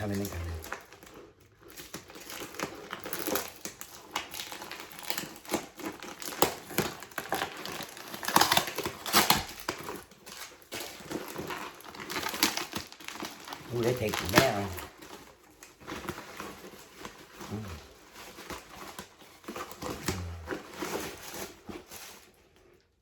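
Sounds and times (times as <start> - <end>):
packaging rustling and crinkling: 0.0 - 23.0.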